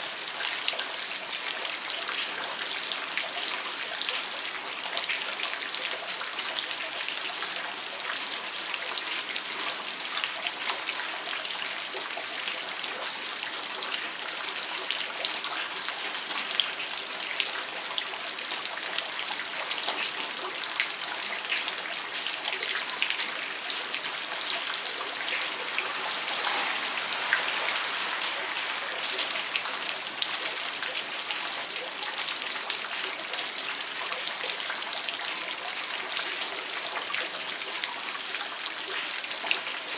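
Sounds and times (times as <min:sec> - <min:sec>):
hiss of rainfall: 0:00.0 - 0:39.9
rain pattering: 0:00.0 - 0:39.9.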